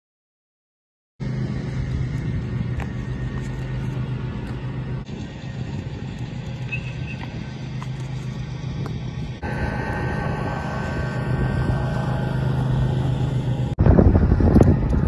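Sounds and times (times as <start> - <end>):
low mechanical hum: 1.2 - 15.0
wind buffeting microphone: 1.4 - 15.0.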